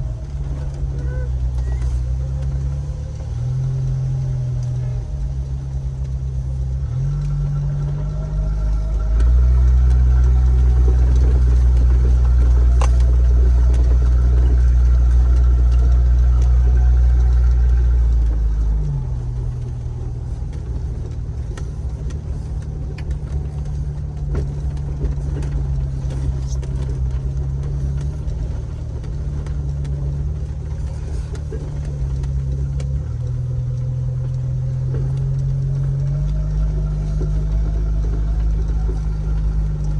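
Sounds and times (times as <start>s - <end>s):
car engine driving: 0.0s - 39.9s.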